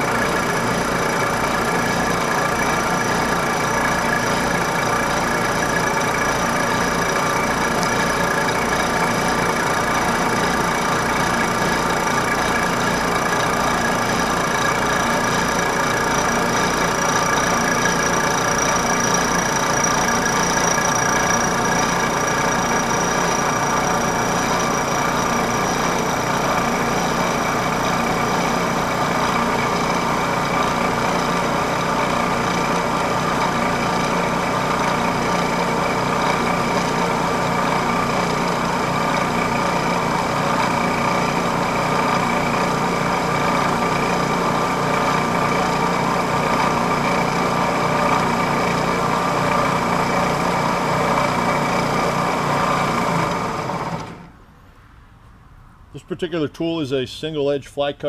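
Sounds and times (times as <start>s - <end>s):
milling machine whirring: 0.0s - 54.3s.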